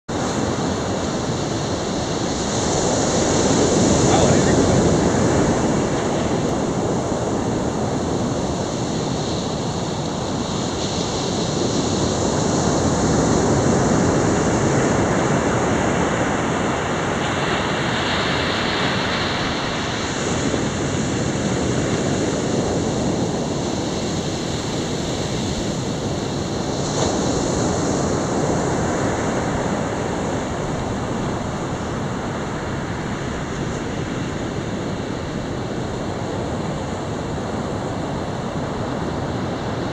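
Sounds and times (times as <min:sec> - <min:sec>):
waves breaking on sand beach: 0:00.1 - 0:39.9.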